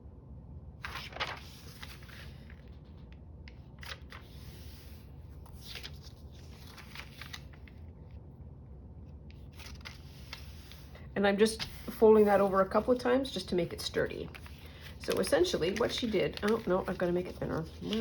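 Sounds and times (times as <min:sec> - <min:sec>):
paper rustling and crinkling: 0:00.8 - 0:08.2, 0:09.3 - 0:18.0.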